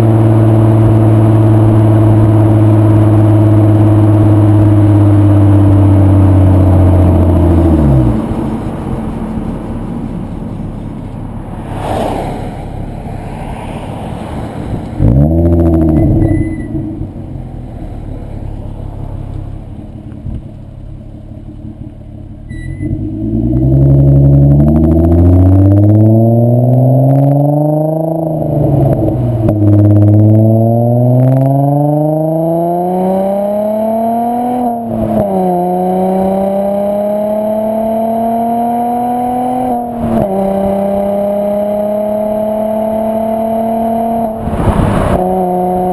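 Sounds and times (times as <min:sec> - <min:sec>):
car engine revving and accelerating: 0:00.0 - 0:08.8, 0:11.3 - 0:20.4, 0:21.2 - 0:45.9.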